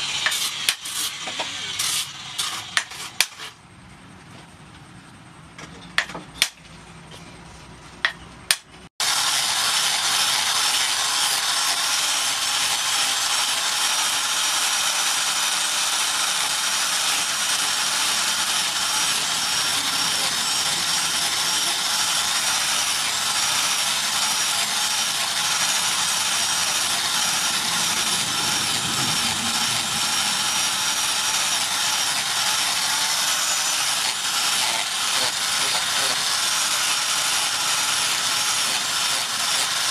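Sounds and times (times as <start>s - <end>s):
angle grinder sanding wood: 0.0s - 3.6s, 9.0s - 39.9s.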